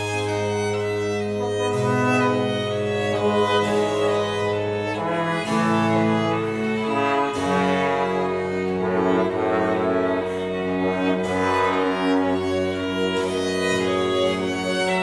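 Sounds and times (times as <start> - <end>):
baroque bassoon: 0.0 - 15.0
baroque violins: 0.0 - 15.0.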